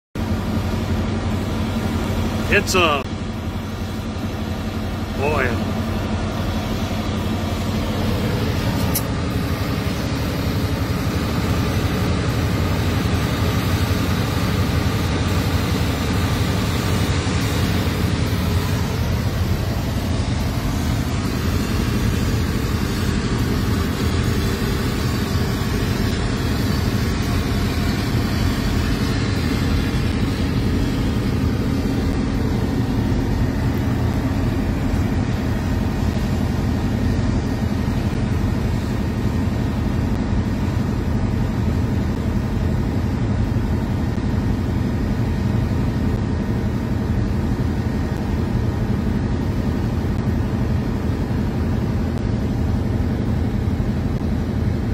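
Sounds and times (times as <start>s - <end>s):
diesel engines droning: 0.2s - 54.9s.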